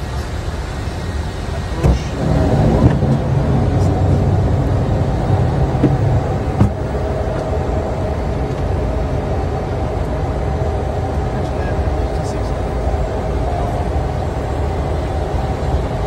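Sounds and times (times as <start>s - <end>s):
jet cockpit rumble: 0.0s - 16.0s.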